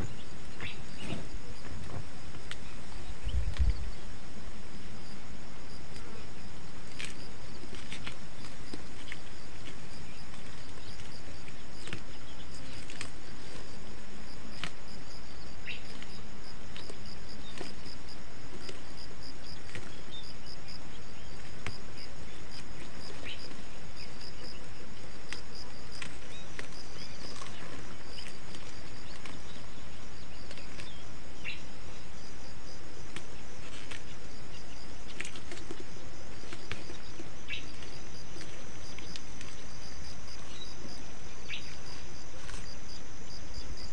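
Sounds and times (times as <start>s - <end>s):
constant hiss: 0.0s - 43.9s
insects chirping: 0.0s - 43.9s.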